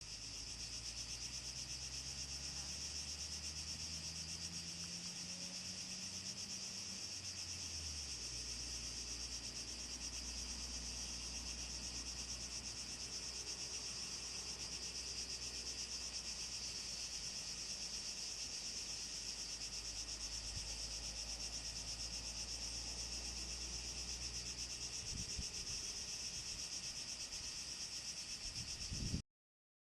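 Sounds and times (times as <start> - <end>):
cicadas buzzing: 0.0 - 29.2.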